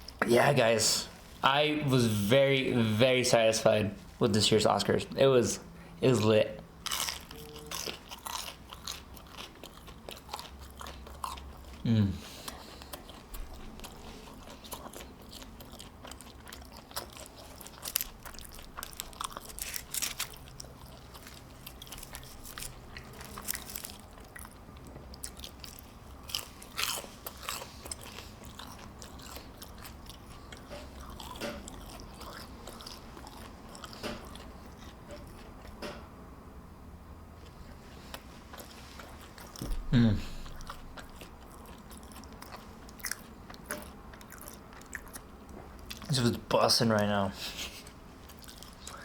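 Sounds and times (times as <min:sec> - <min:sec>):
chewing and crunching food: 0:06.6 - 0:35.9, 0:37.4 - 0:46.4, 0:47.4 - 0:49.0.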